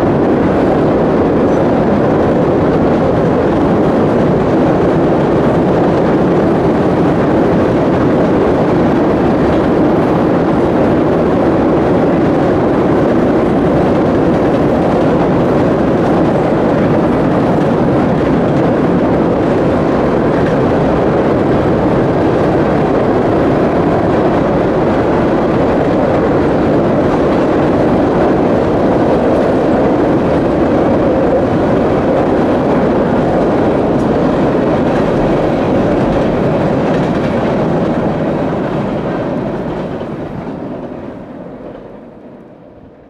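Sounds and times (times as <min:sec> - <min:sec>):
train wheels clattering on rails: 0:00.0 - 0:42.2.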